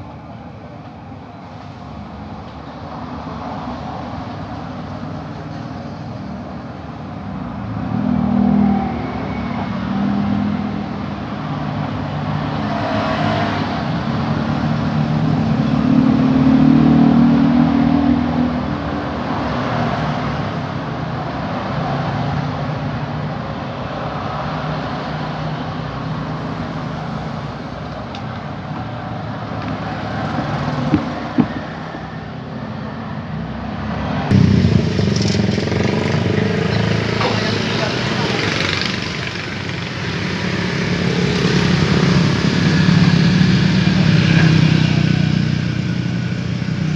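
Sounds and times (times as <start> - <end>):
vehicle engines passing: 2.6 - 46.9.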